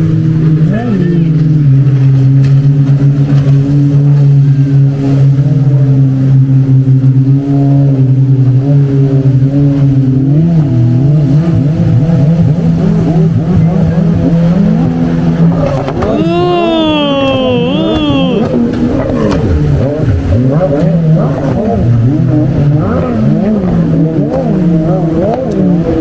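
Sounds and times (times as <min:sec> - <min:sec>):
motor engine revving: 0:00.0 - 0:26.0.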